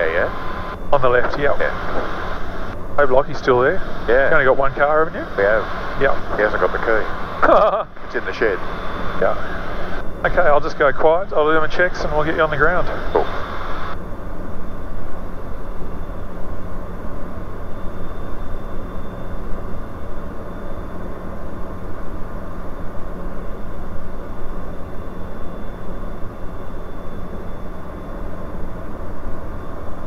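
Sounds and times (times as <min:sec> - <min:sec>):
aircraft engine drone: 0:00.0 - 0:30.0
faint high whine: 0:00.0 - 0:30.0.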